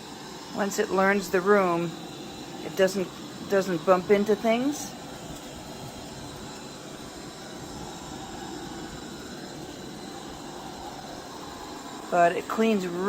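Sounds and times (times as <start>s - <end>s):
robot vacuum whirring: 0.6s - 13.0s.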